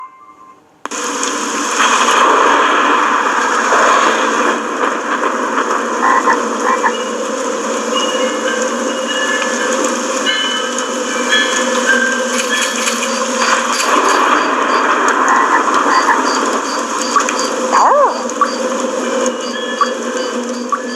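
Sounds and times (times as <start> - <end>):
water splashing and pattering: 0.9 - 20.9.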